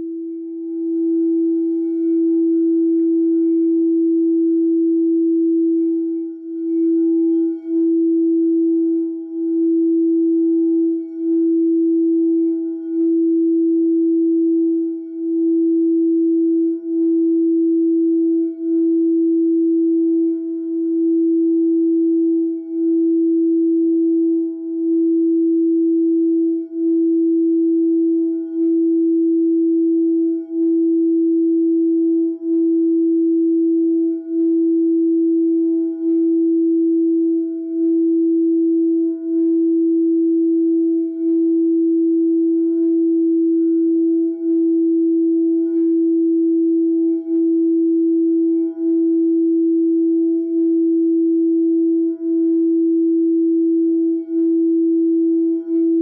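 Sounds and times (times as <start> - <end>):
singing bowl tone: 0.0 - 56.0.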